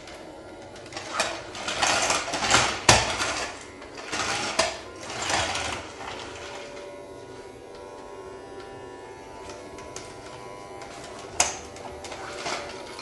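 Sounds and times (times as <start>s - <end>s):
toy vacuum whirring: 0.0s - 13.0s.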